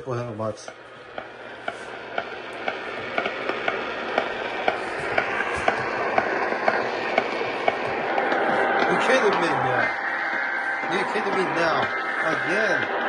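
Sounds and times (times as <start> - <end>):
hiss: 0.6 - 13.0
regular ticking: 0.6 - 13.0.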